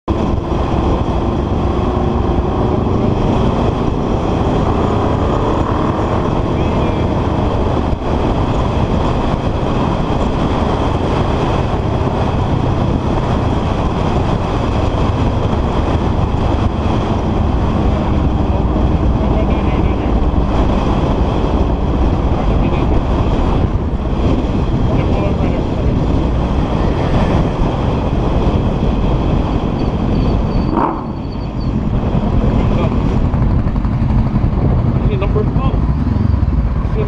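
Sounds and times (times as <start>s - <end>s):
wind noise on microphone: 0.0s - 37.0s
motorcycle engine cruising: 0.1s - 37.0s.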